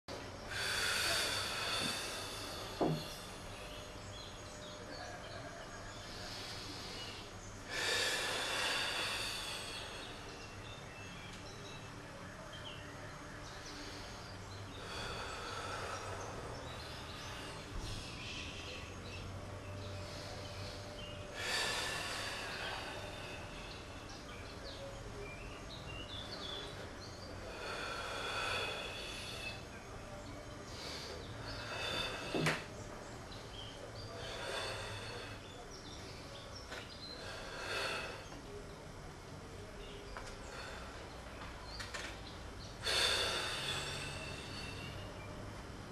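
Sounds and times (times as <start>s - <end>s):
low room hum: 0.1s - 45.9s
man breathing: 0.2s - 11.8s, 13.1s - 38.6s, 39.5s - 45.9s.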